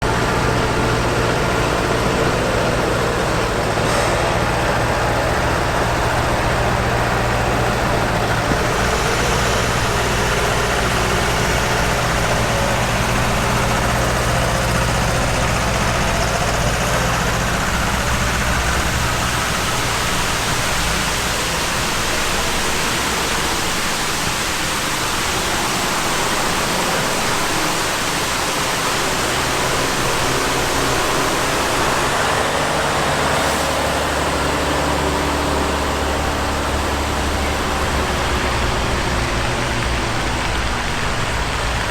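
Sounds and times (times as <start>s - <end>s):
constant rushing noise: 0.0s - 41.9s
truck engine running at low revs: 0.0s - 41.9s.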